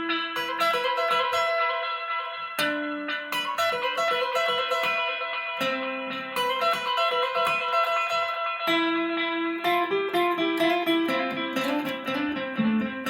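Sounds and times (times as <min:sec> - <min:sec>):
guitar playing picked notes: 0:00.0 - 0:13.0.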